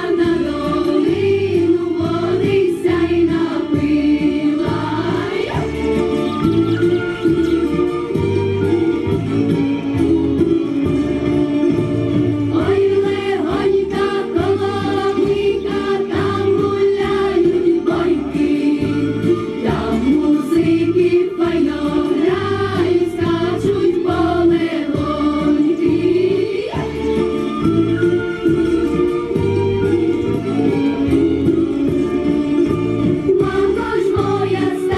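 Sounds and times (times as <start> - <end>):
children's choir singing: 0.0 - 7.8, 12.2 - 31.2, 31.8 - 34.9.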